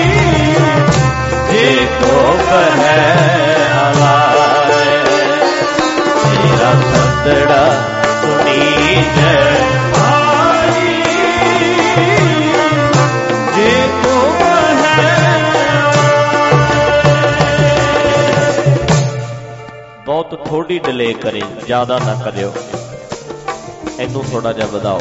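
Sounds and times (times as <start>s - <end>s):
music with drum beat and melody: 0.0s - 25.0s.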